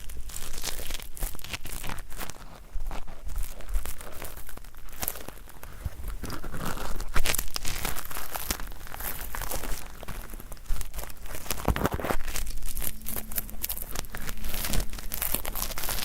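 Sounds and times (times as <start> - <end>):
ear-cleaning tool scraping earwax: 0.1 - 16.0.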